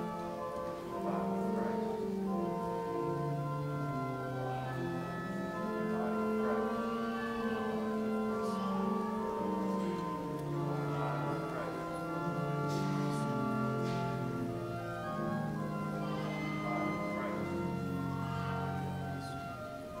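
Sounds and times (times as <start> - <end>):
church organ playing chords: 0.0 - 20.0.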